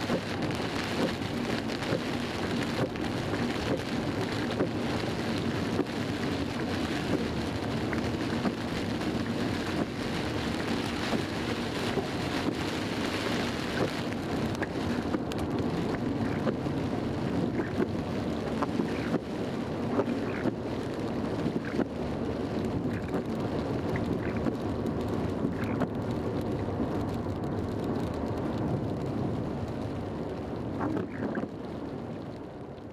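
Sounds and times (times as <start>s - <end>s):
car tyre and engine noise: 0.0s - 32.9s
heavy rain drumming on car: 0.0s - 32.9s.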